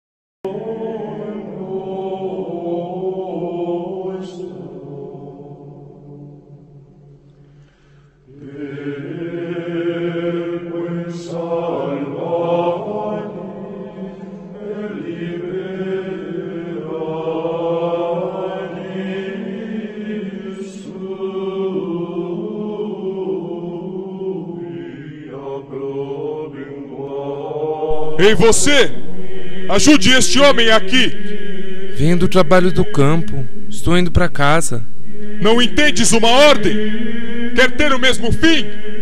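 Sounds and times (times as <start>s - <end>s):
solemn vocal chanting: 0.4s - 39.0s.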